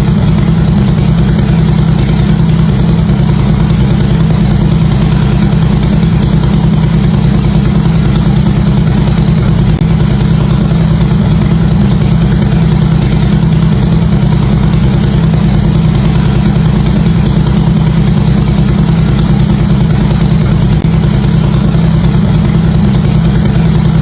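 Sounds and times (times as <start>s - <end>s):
motorcycle exhaust idling: 0.0s - 24.0s.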